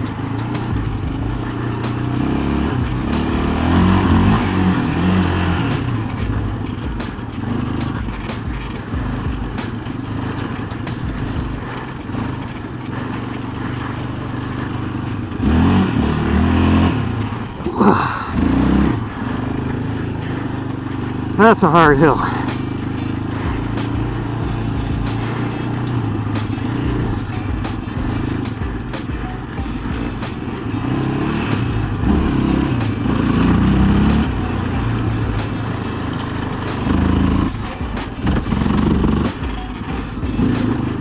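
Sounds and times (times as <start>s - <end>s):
quad engine revving: 0.0s - 41.0s.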